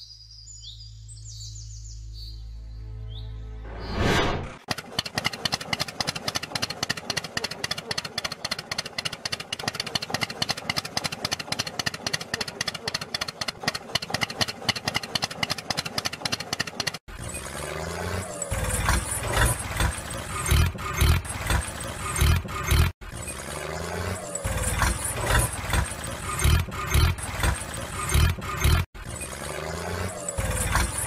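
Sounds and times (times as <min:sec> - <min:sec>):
tractor engine chugging: 0:04.6 - 0:31.0.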